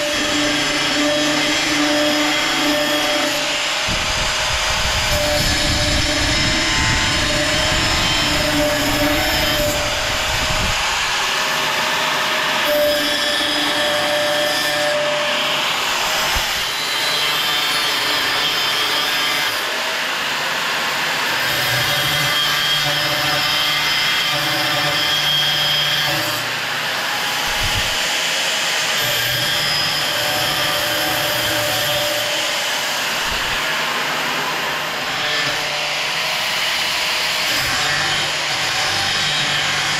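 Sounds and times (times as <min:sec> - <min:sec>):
power saw cutting steel: 0:00.0 - 0:39.9.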